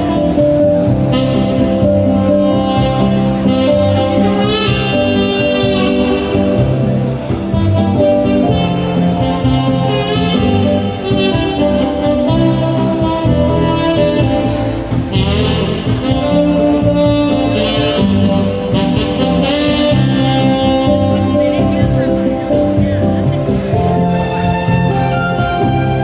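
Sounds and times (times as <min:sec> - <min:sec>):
backing track accompaniment: 0:00.0 - 0:26.0
saxophone playing slow melody: 0:00.0 - 0:26.0.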